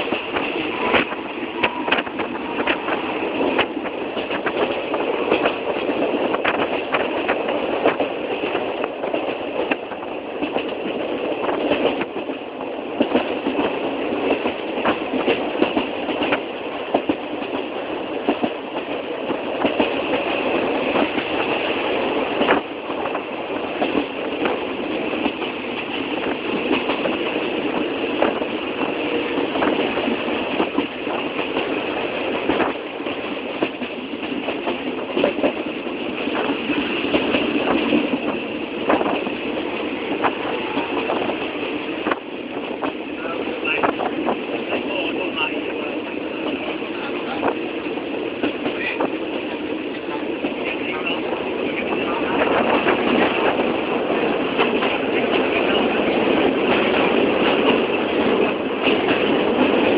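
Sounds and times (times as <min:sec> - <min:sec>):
train carriage clattering: 0:00.0 - 0:59.9.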